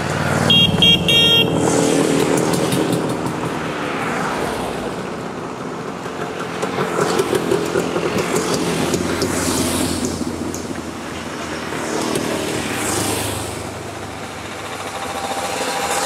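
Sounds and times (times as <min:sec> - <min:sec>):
motorcycles passing: 0:00.0 - 0:16.0
tyres on asphalt: 0:00.0 - 0:16.0.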